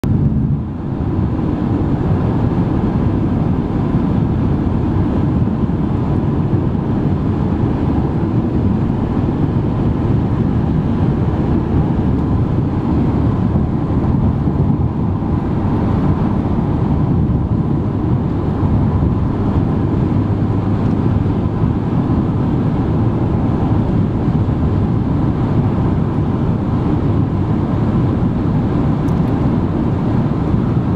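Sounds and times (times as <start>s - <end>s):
car road and wind noise: 0.0s - 30.9s.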